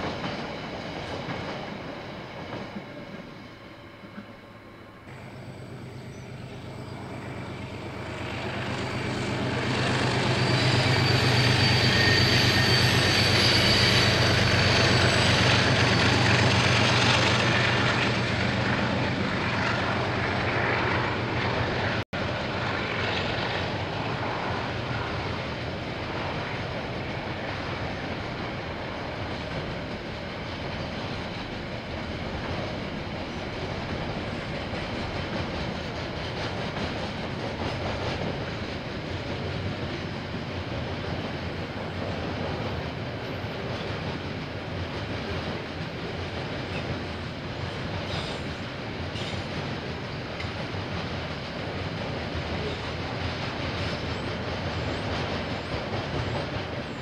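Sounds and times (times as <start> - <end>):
locomotive engine hum: 0.0 - 57.0
train wagons rumbling: 0.0 - 57.0.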